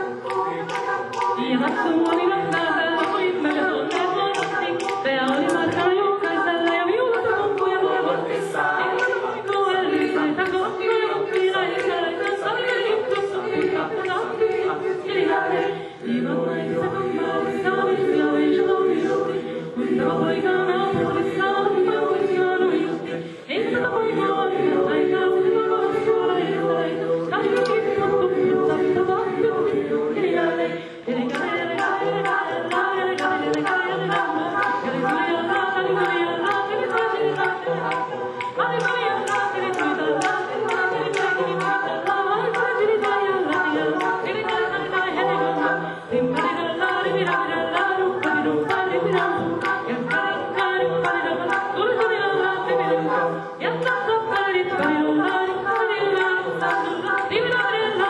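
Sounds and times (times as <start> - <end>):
choir singing a cappella: 0.0 - 58.0
woman soloist singing: 0.0 - 58.0.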